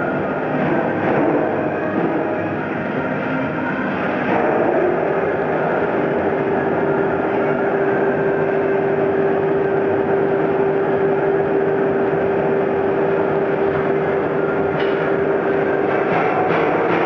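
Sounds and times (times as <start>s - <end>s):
log-squaring saw machine humming: 0.0s - 17.0s.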